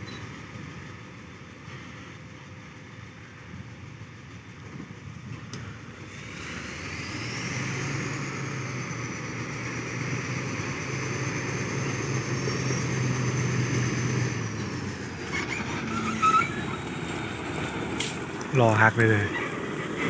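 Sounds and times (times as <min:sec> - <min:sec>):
diesel engine working under load: 0:00.0 - 0:20.0.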